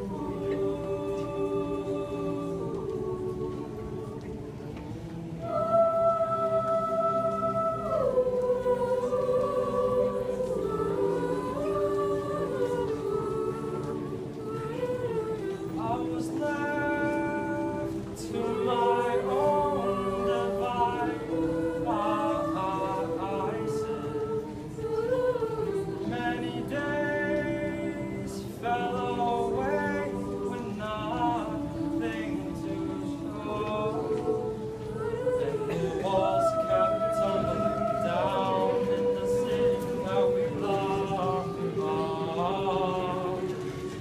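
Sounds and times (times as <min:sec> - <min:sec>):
choir singing a cappella: 0:00.0 - 0:44.0.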